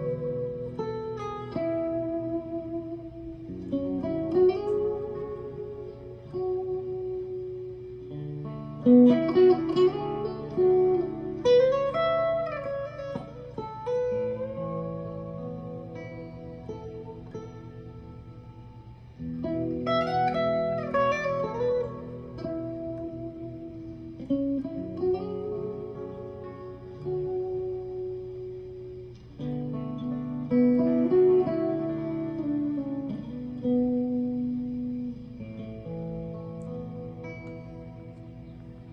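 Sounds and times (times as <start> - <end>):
electric guitar lead phrases: 0.0 - 38.9.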